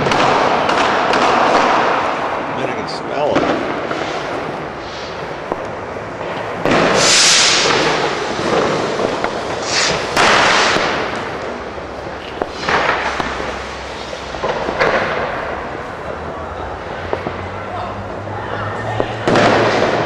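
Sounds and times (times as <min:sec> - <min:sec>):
distant firework bangs: 0:00.0 - 0:17.9, 0:18.8 - 0:20.0
loud firework bursts: 0:00.0 - 0:20.0.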